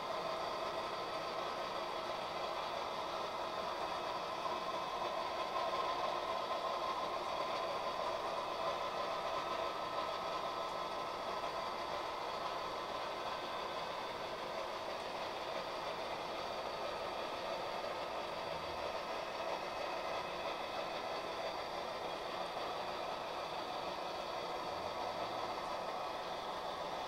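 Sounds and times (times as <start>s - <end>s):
model train whirring: 0.0s - 27.0s.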